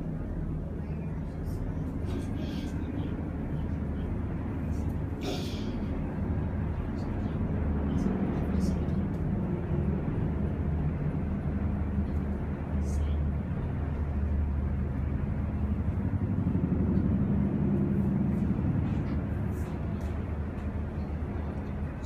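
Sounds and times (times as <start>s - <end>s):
faint muffled voices: 0.0s - 14.3s, 18.1s - 22.0s
low background rumble: 0.0s - 22.0s.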